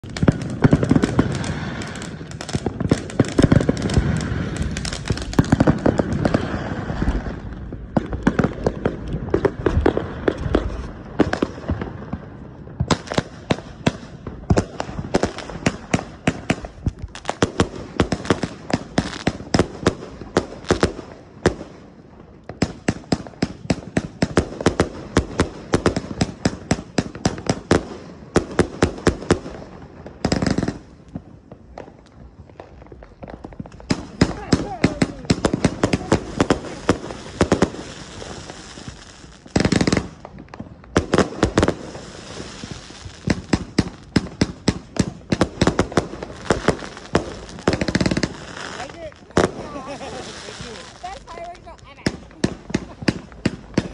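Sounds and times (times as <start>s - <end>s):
firework cake firing: 0.0s - 53.9s.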